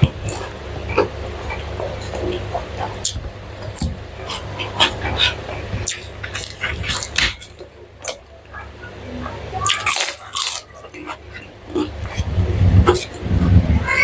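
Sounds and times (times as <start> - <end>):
crunching and chewing: 0.0 - 13.6.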